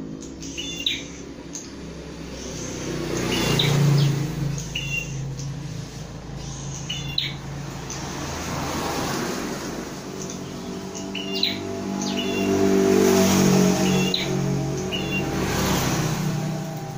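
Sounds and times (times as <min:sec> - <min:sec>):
bird chirping: 0:00.0 - 0:08.8, 0:10.0 - 0:16.9
low hum: 0:00.0 - 0:16.9.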